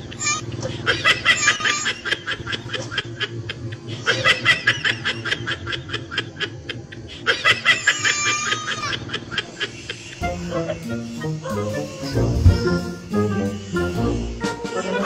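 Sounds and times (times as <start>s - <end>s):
people laughing: 0.0s - 15.0s.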